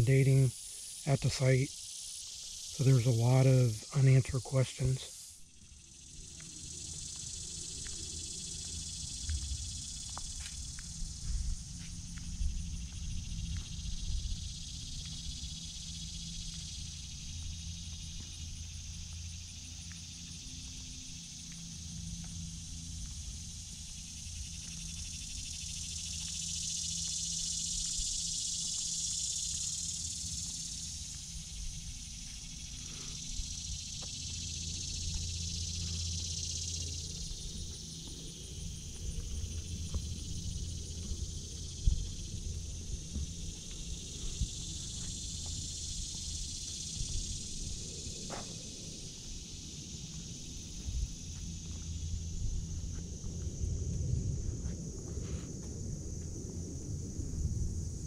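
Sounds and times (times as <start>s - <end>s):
insect chorus: 0.0s - 58.0s
low steady hum: 2.6s - 58.0s.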